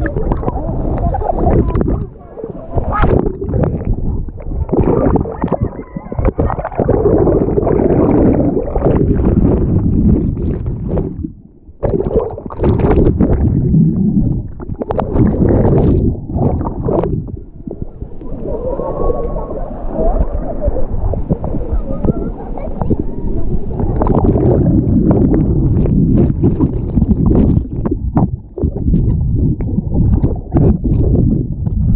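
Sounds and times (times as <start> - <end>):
rushing water splashing: 0.0 - 31.2
muffled underwater rumble: 0.0 - 31.9.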